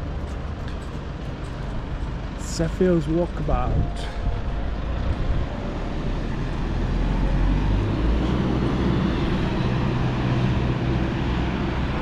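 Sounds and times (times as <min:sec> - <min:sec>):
low engine hum: 0:00.0 - 0:12.0
street traffic rumble and hiss: 0:00.0 - 0:12.0.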